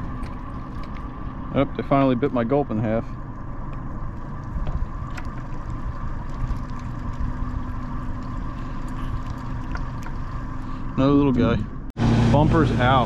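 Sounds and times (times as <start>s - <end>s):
boat engine humming: 0.0s - 13.0s
wind and water noise: 0.0s - 13.0s.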